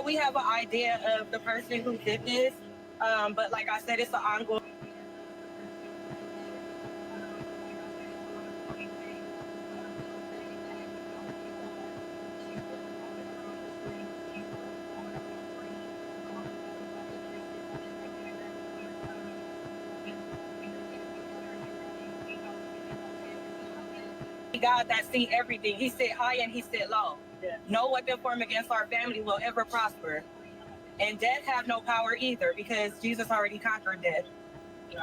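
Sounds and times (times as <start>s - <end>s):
electrical hum: 0.0s - 35.0s.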